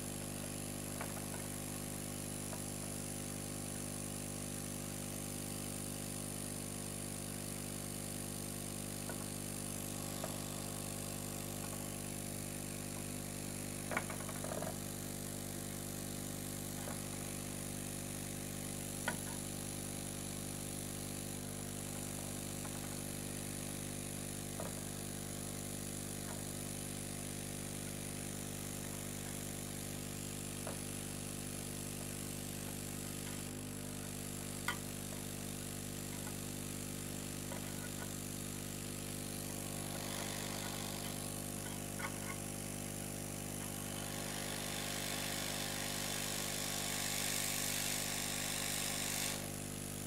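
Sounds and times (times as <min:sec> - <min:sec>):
hot-air gun blower humming: 0:00.0 - 0:50.0.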